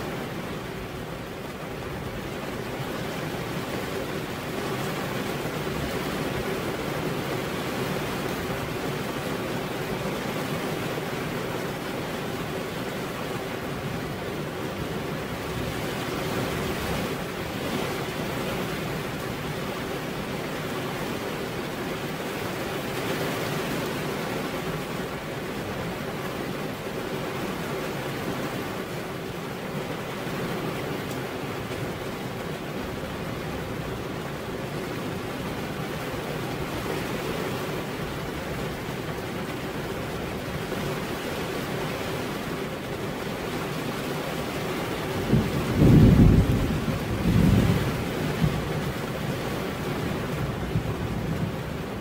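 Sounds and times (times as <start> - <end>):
heavy rain on a roof: 0.0 - 52.0.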